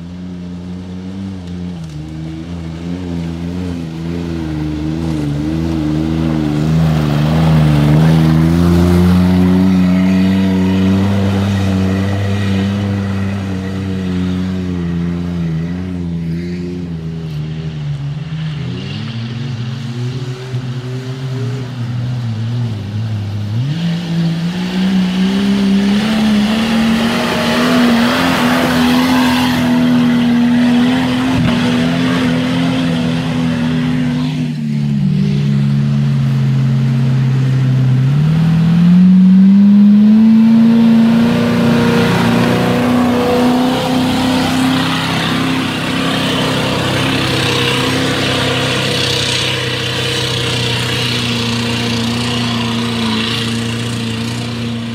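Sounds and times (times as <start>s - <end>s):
off-road engines revving hard: 0.0s - 54.9s.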